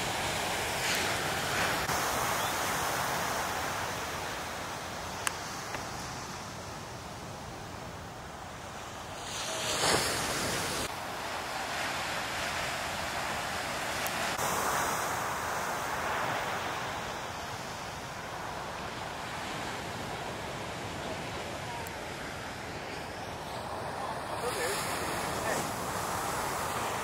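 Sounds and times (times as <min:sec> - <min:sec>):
waves breaking on beach: 0:00.0 - 0:27.0.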